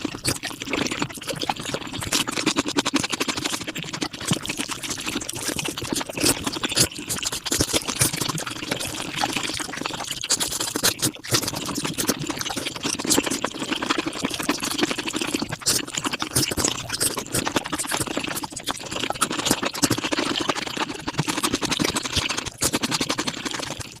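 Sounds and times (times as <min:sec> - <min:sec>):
sped-up chewing and smacking: 0:00.0 - 0:24.0.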